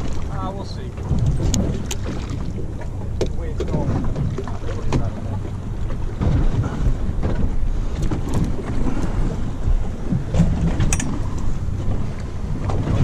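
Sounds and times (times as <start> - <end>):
boat engine rumble: 0.0 - 13.0
wind buffeting microphone: 0.0 - 13.0.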